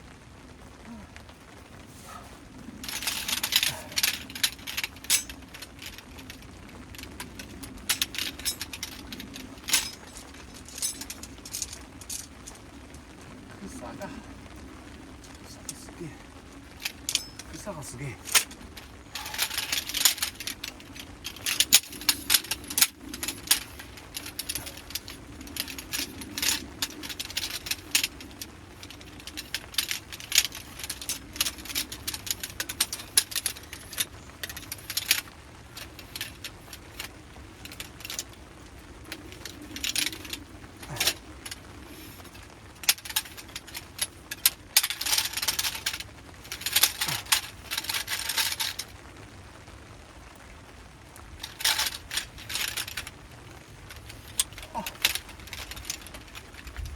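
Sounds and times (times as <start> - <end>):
gear rustling: 0.0 - 56.9
small metallic clinks: 2.1 - 13.0, 15.1 - 49.0, 51.4 - 56.9.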